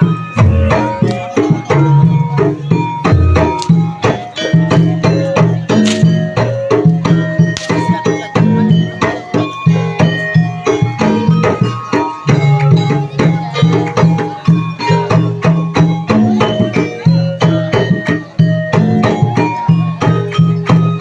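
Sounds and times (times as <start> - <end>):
hand drums beating: 0.0 - 21.0
ringing tuned percussion: 0.0 - 21.0.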